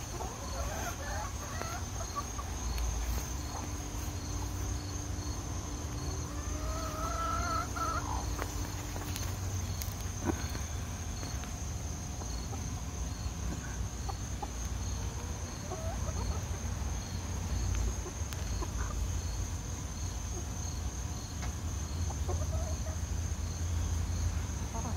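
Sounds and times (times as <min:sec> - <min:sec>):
faint chicken clucks: 0:00.0 - 0:19.4, 0:20.0 - 0:23.1, 0:24.5 - 0:24.9
high insect buzz with chirp: 0:00.0 - 0:24.9.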